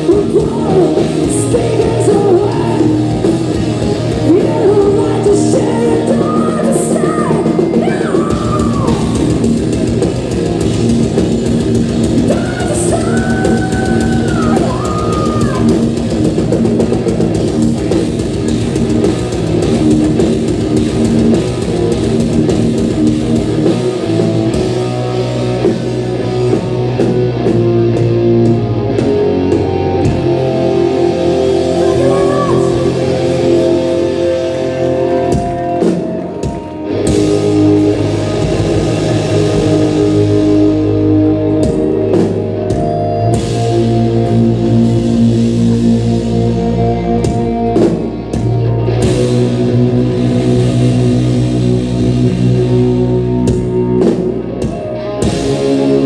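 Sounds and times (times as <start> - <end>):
distorted electric guitars: 0.0 - 56.0
pounding drum kit: 0.0 - 56.0.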